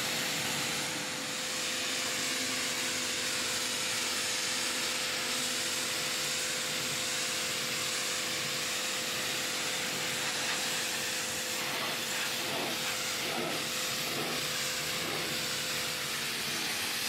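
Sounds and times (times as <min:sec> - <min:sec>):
water jet spraying hiss: 0:00.0 - 0:17.0.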